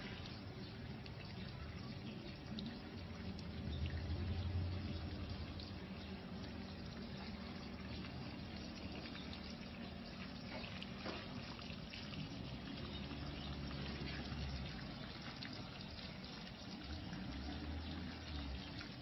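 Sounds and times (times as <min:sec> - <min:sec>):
water trickling and pouring: 0:00.0 - 0:19.0.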